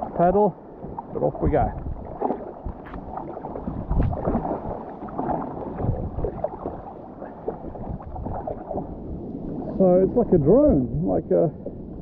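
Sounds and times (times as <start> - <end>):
paddle splashing in water: 0.0 - 9.8
water sloshing against kayak: 0.0 - 12.0.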